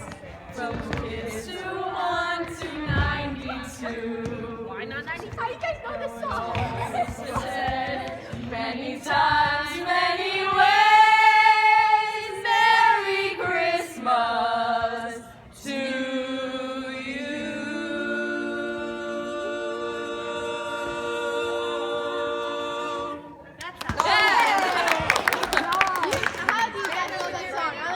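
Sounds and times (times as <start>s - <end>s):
group singing a cappella: 0.0s - 5.2s, 6.0s - 23.6s.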